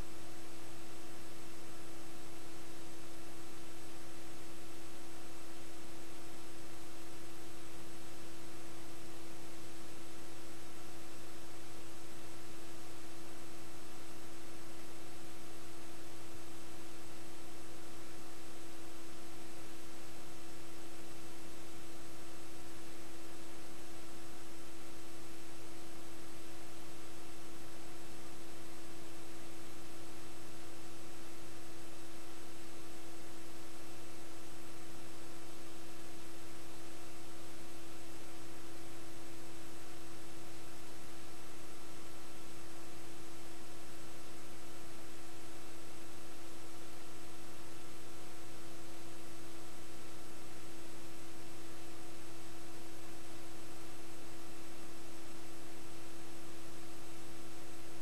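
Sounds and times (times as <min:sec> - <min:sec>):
constant hiss: 0:00.0 - 0:58.0
electrical hum: 0:00.0 - 0:58.0.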